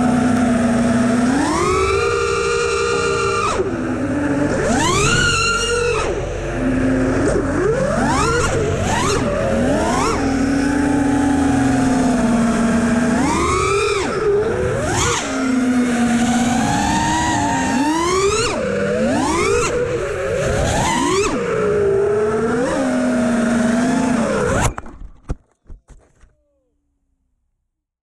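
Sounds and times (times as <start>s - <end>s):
drone motors and propellers whining: 0.0s - 25.4s.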